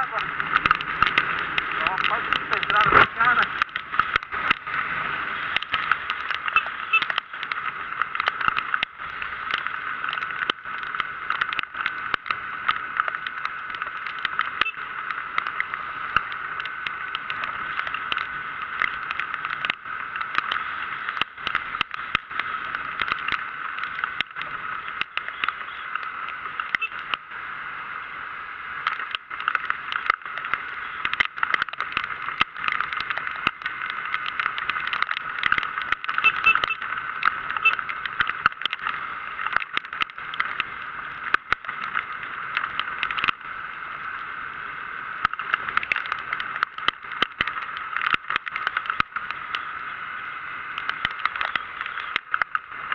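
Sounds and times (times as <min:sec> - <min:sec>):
raindrops striking microphone: 0:00.0 - 0:52.9.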